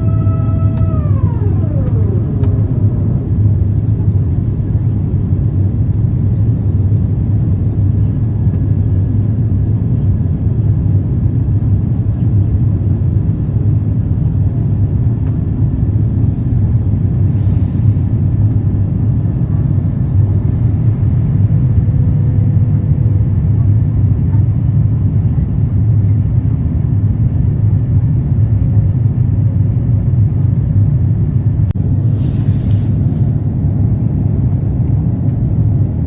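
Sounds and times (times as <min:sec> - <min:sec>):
jet engines and airflow rumbling: 0:00.0 - 0:36.0.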